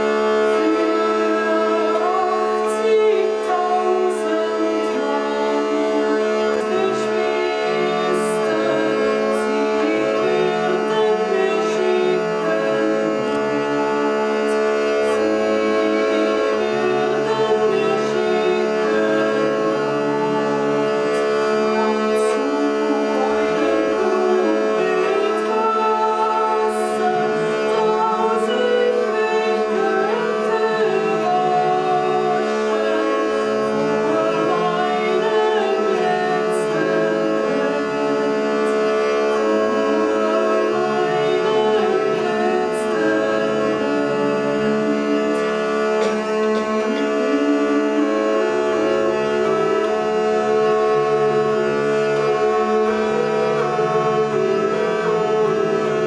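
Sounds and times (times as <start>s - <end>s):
woman singing: 0.0s - 51.0s
hurdy-gurdy melody with drones: 0.0s - 56.0s.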